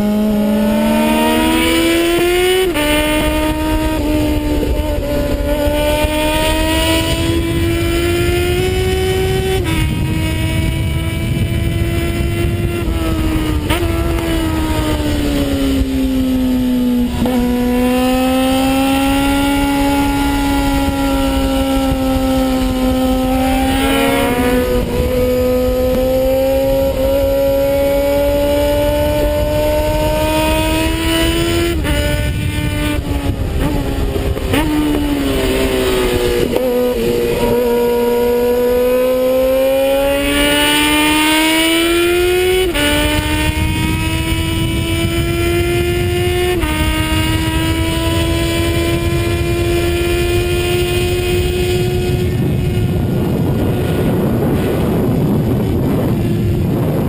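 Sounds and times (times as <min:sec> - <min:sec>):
motorcycle engine revving: 0:00.0 - 0:57.0
rushing wind noise: 0:00.0 - 0:57.0.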